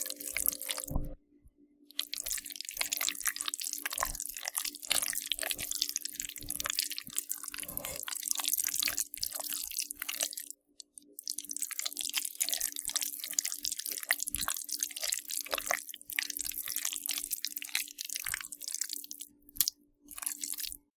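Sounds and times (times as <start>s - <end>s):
slime squelching: 0.0s - 1.1s, 1.9s - 20.9s.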